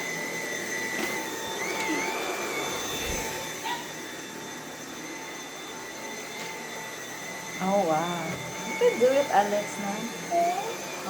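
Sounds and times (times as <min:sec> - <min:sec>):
cordless vacuum motor whine: 0:00.0 - 0:11.0.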